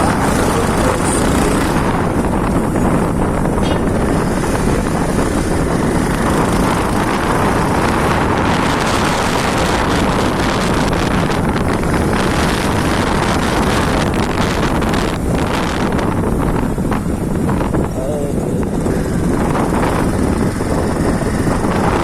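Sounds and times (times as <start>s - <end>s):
vehicle running noise: 0.0s - 22.0s
wind buffeting microphone: 0.0s - 22.0s.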